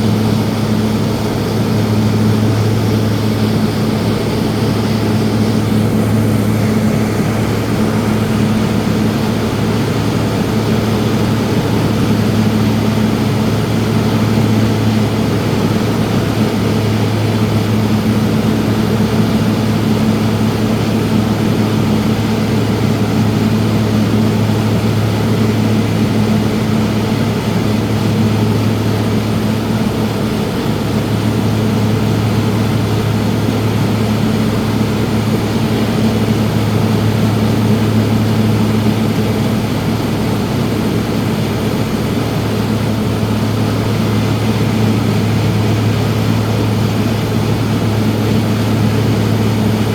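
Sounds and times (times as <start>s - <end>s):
propeller plane engine in cabin: 0.0s - 49.9s.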